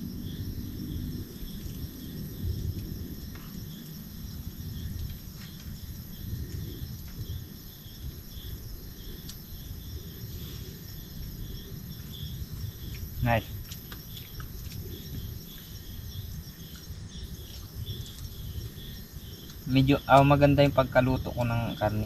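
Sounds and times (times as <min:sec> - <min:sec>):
crickets chirping: 0:00.0 - 0:22.0
high-pitched insect drone: 0:00.0 - 0:22.0.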